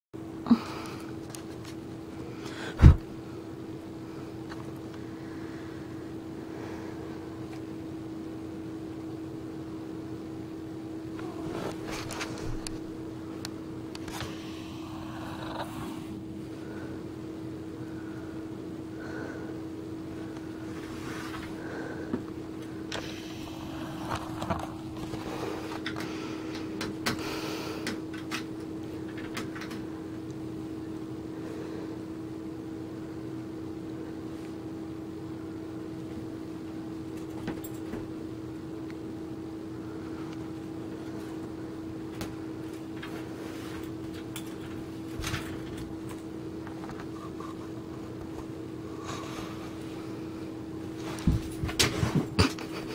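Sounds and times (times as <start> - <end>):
steady background hum: 0.2 - 52.9.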